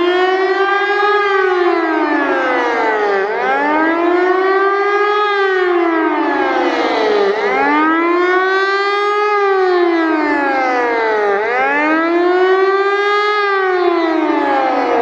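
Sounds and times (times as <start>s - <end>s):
rising and falling siren wail: 0.0s - 15.0s.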